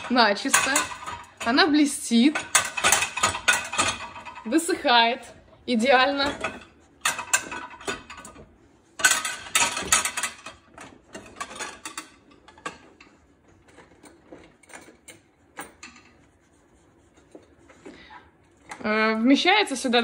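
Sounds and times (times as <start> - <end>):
plates and wire rack rattling: 0.0 - 16.2.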